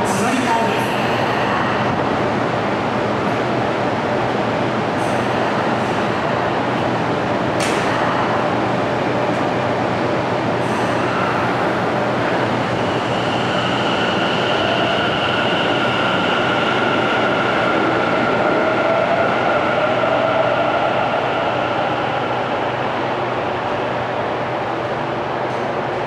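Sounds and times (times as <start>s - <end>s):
electric train running with whine: 0.8s - 24.4s.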